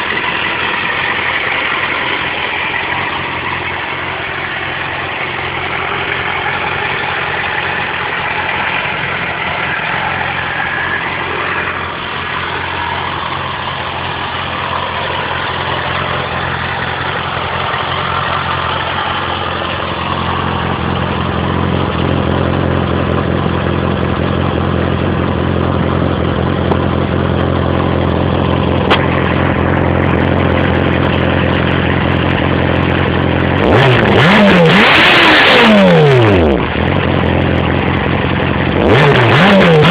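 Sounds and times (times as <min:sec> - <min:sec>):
motorcycle engine idling: 0:00.0 - 0:34.1, 0:36.1 - 0:38.9.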